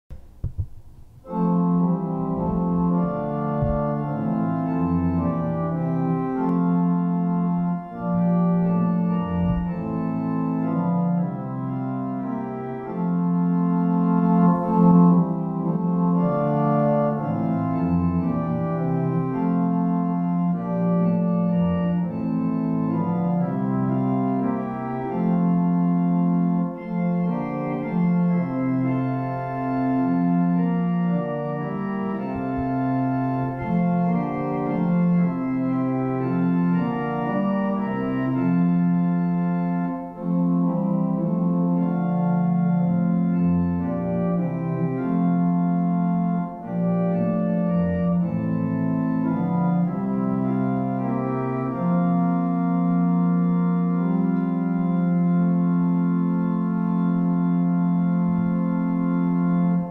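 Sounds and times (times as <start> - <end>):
church organ chords: 0.2 - 59.9.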